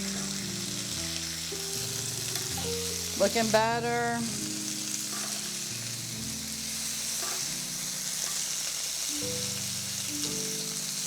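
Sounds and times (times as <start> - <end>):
meat sizzling on a grill pan: 0.0 - 11.0
music of held low notes: 0.0 - 11.0.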